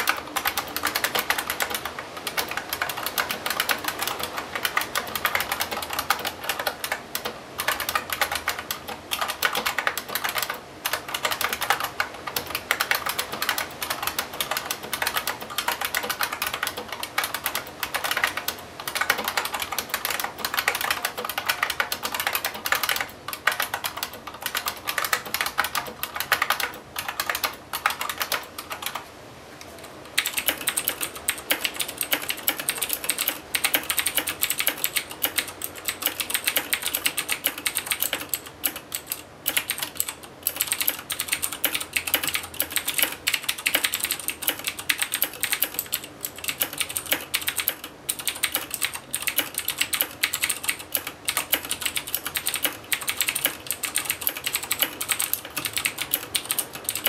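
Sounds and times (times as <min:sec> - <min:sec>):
fast typing on mechanical keyboard: 0:00.0 - 0:29.0, 0:29.8 - 0:57.0.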